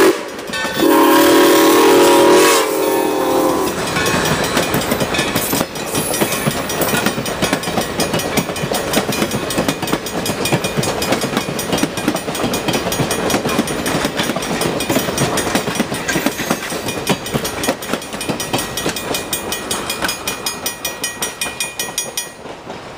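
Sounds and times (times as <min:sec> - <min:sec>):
train wheels clicking and rumbling: 0:00.0 - 0:22.9
crossing bell ringing: 0:00.2 - 0:22.6.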